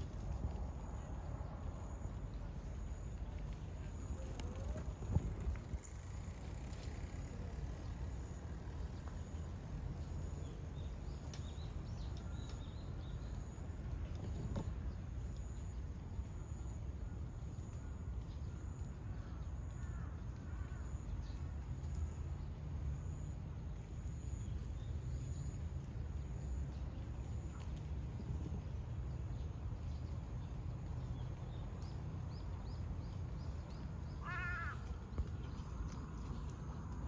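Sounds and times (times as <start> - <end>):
low outdoor rumble: 0.0 - 37.0.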